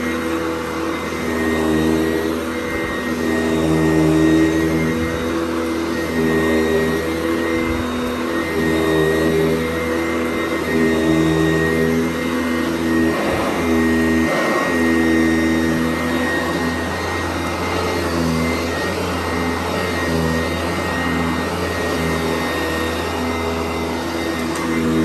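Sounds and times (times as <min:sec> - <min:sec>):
upright vacuum cleaner running: 0:00.0 - 0:25.0.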